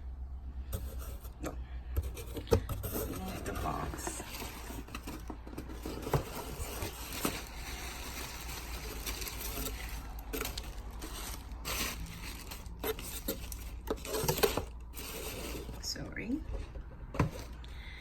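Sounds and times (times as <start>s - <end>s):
cardboard rustling: 0.8s - 17.6s.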